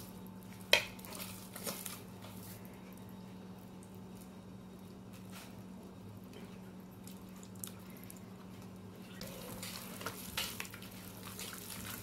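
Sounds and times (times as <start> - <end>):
wet squelching of kneaded dough: 0.0 - 12.0.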